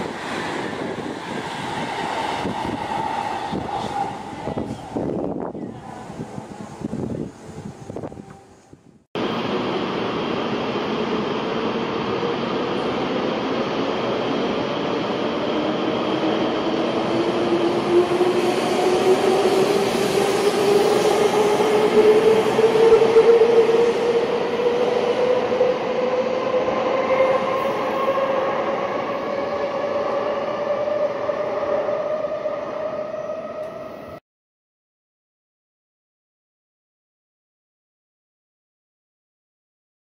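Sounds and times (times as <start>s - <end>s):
train rumble and rush: 0.0s - 34.2s.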